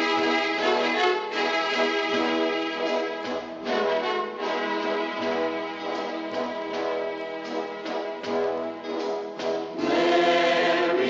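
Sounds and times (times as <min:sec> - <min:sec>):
orchestral held chords: 0:00.0 - 0:11.0.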